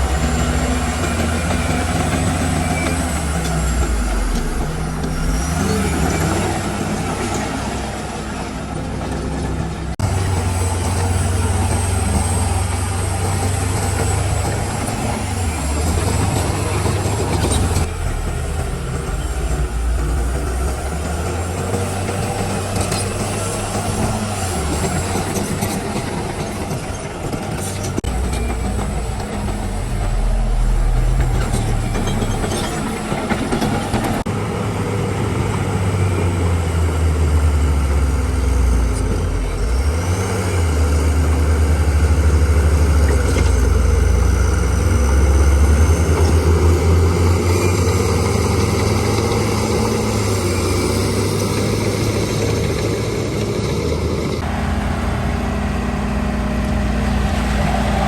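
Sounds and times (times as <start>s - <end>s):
heavy diesel engine working: 0.0s - 58.0s.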